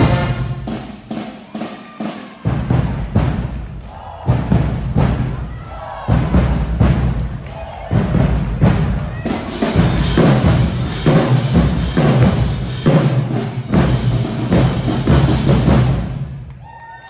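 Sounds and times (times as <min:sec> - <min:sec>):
marching band drum beat: 0:00.0 - 0:16.5.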